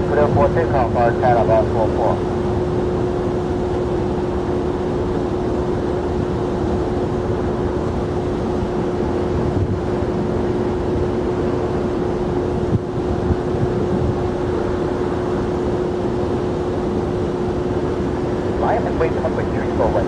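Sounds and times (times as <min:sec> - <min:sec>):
jet engines droning: 0:00.0 - 0:20.0.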